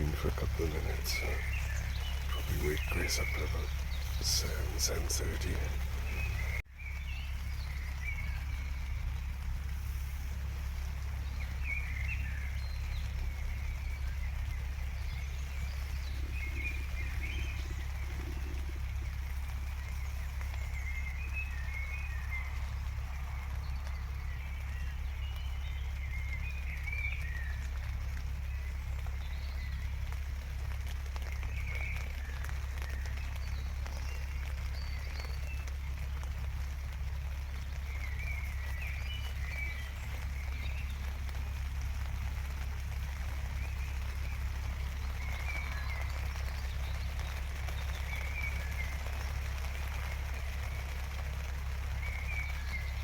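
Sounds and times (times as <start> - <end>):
birds chirping: 0.0 - 53.0
steady rain falling: 0.0 - 53.0.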